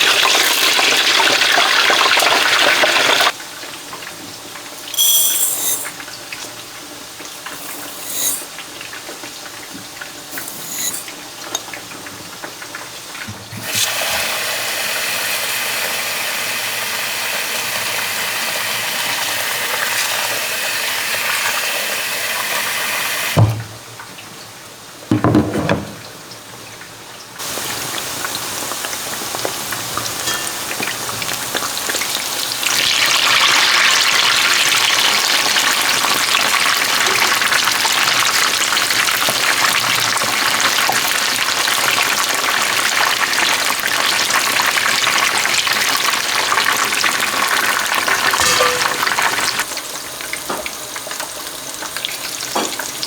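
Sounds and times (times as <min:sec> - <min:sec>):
food sizzling in hot oil: 0:00.0 - 0:03.4, 0:04.7 - 0:06.3, 0:07.3 - 0:11.6, 0:13.6 - 0:23.4, 0:27.4 - 0:53.0.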